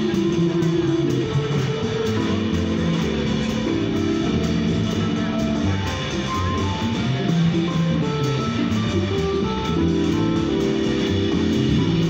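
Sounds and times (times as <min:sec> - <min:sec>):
drum cymbals keeping a beat: 0:00.0 - 0:12.0
electric keyboard chords: 0:00.0 - 0:12.0
upright bass line: 0:00.0 - 0:12.0.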